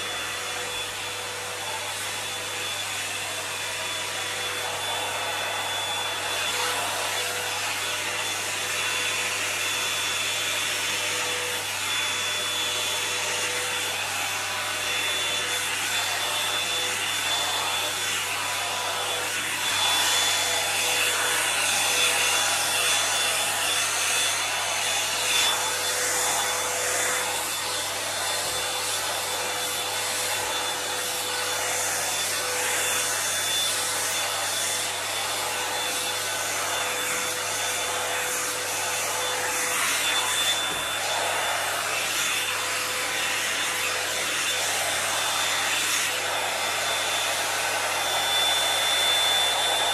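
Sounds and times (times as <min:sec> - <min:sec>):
hot-air brush blowing: 0:00.0 - 0:49.9.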